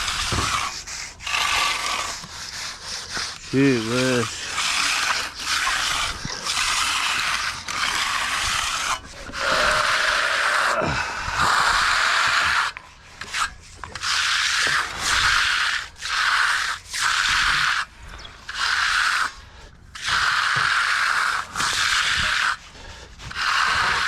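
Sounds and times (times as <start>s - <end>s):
tool scraping across concrete: 0.0s - 24.0s.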